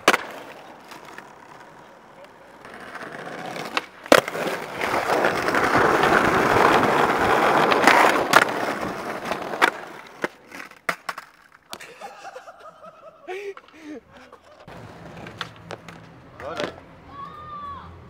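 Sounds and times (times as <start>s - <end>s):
skateboard clacking on ground: 0.0s - 11.9s, 13.4s - 17.4s
skateboard wheels rolling on paving: 0.0s - 17.8s.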